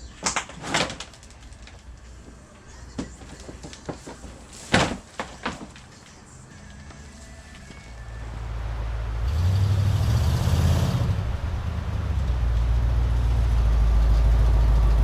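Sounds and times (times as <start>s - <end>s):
vehicle engine rumbling: 1.0s - 15.0s.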